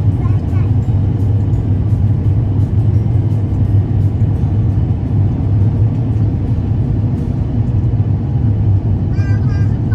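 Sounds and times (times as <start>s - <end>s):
airliner cabin rumble: 0.0s - 9.9s.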